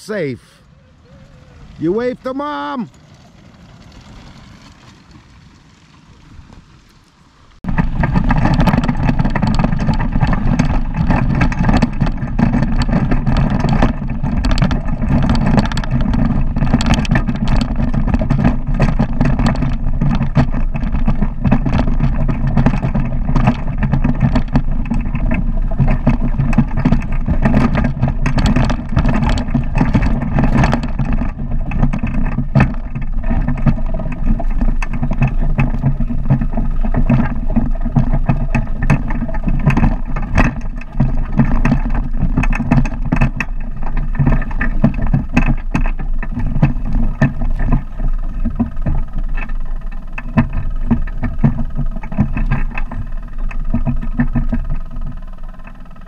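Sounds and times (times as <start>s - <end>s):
trike engine and propeller: 0.0s - 56.0s.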